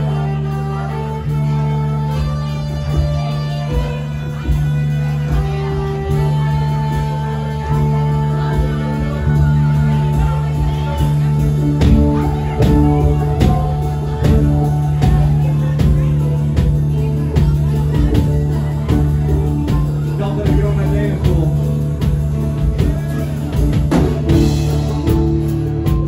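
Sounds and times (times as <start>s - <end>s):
country rock band playing: 0.0s - 26.0s
drum kit beat: 0.0s - 26.0s.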